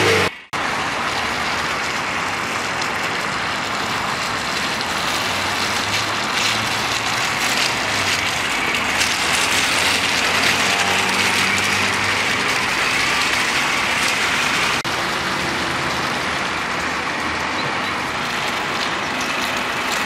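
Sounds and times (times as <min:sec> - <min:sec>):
diesel van engine passing: 0:00.0 - 0:20.0
tyres hissing on wet mud: 0:00.0 - 0:20.0.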